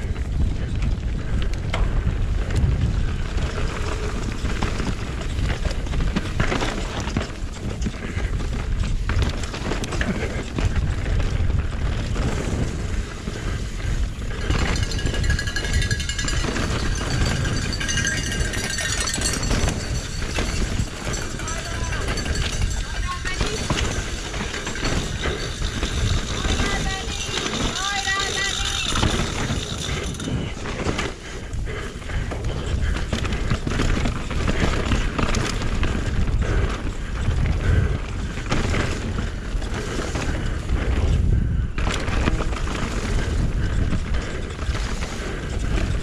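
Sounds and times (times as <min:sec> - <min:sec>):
bike rattling over rough ground: 0:00.0 - 0:46.0
wind rushing on microphone: 0:00.0 - 0:46.0.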